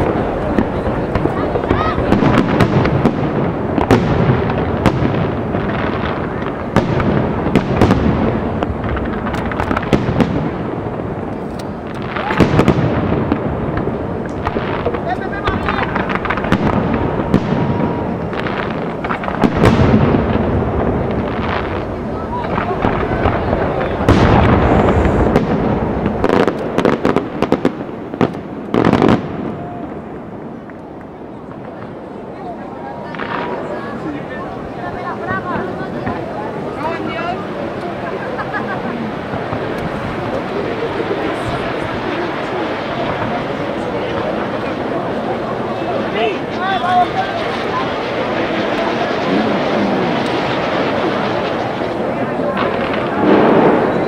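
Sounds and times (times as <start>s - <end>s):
continuous rumble: 0.0s - 54.0s
fireworks bangs: 0.0s - 54.0s.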